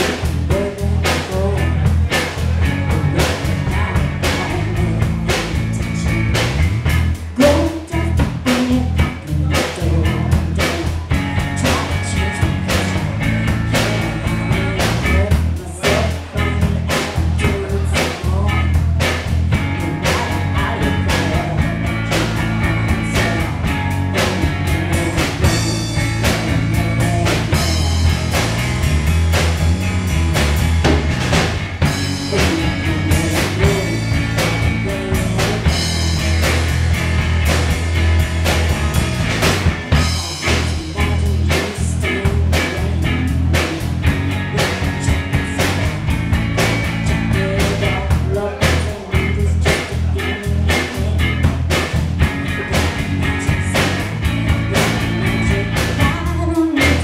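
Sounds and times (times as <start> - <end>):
electric guitar: 0.0 - 57.0
heavy bass line: 0.0 - 57.0
steady drum beat: 0.0 - 57.0.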